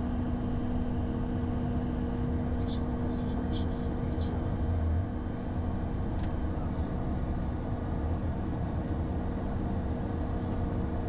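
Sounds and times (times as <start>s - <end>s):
jet engines idling drone: 0.0s - 11.0s.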